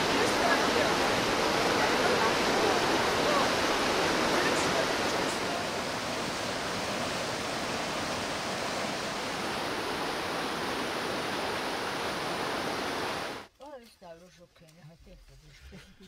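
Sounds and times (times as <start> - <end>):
flowing water rushing: 0.0 - 13.5.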